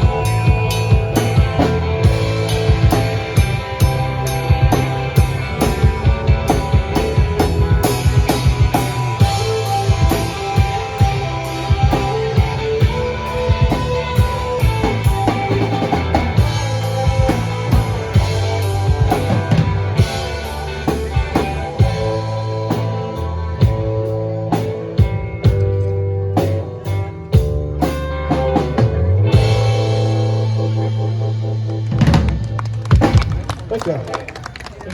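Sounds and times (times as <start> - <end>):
drum kit beat with cymbals: 0.0 - 33.5
band playing instrumental: 0.0 - 34.9.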